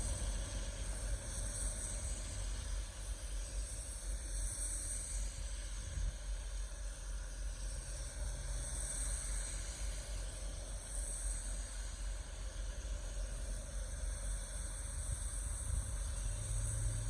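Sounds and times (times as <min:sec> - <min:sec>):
wind hissing with low rumble: 0:00.0 - 0:17.0.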